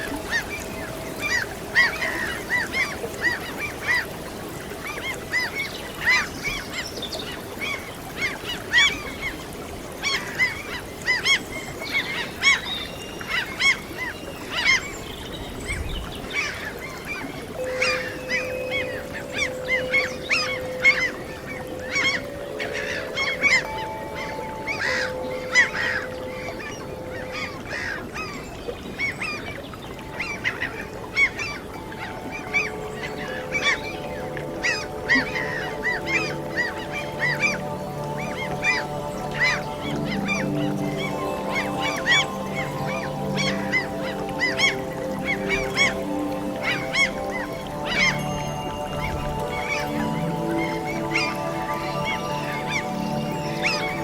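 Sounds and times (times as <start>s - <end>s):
gulls calling: 0.0s - 54.0s
sea waves: 0.0s - 54.0s.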